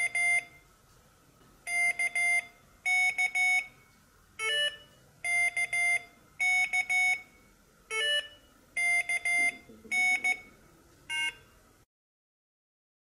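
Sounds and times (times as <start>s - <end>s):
morse code beeps: 0.0s - 0.6s, 1.7s - 11.6s.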